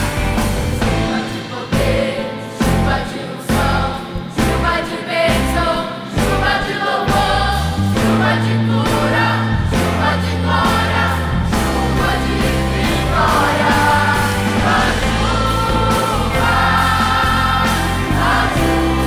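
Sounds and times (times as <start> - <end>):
choir singing gospel song: 0.0 - 19.0
instrumental accompaniment: 0.0 - 19.0
sustained bass notes: 0.0 - 19.0.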